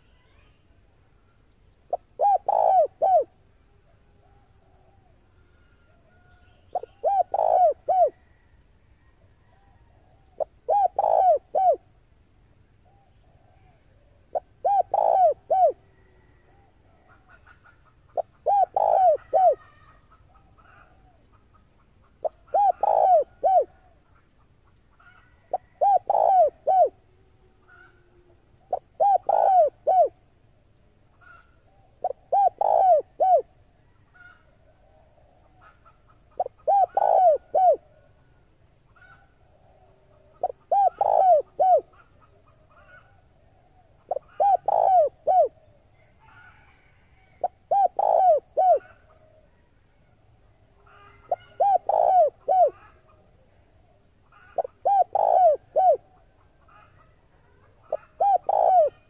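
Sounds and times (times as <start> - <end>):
dove cooing: 1.9 - 12.0, 12.8 - 24.2, 25.0 - 38.1, 39.0 - 49.7, 50.8 - 59.0.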